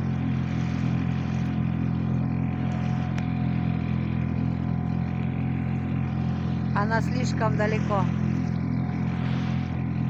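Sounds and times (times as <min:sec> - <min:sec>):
motorboat engine humming: 0:00.0 - 0:10.0.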